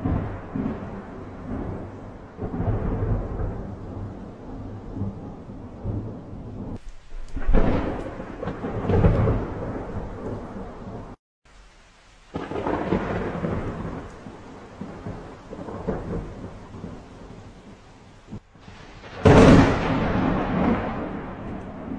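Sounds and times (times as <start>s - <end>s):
thunder rumbling: 0.0s - 11.2s, 12.2s - 21.9s
rain: 0.0s - 21.9s.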